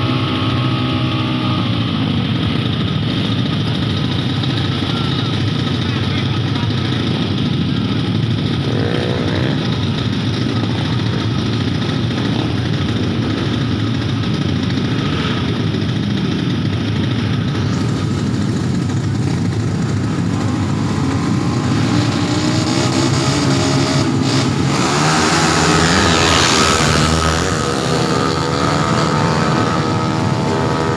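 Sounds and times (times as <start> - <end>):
motorcycle engines revving: 0.0 - 30.9.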